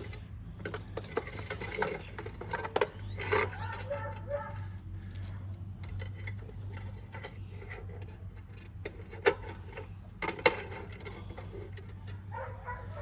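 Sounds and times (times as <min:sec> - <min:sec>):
clamp straps rubbing and clicking: 0:00.0 - 0:12.2.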